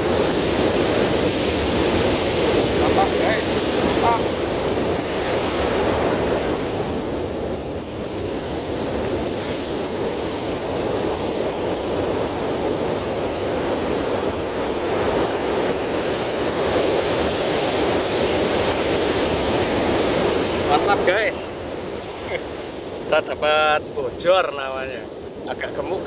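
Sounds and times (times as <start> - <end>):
ocean surf on sandy beach: 0.0 - 26.0
wind on microphone: 0.0 - 26.0.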